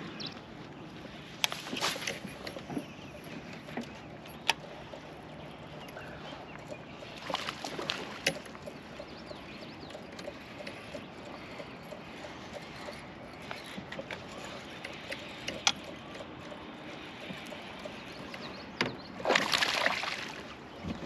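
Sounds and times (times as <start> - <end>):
outdoor background noise: 0.0 - 21.0
fishing gear clicks and knocks: 0.3 - 21.0.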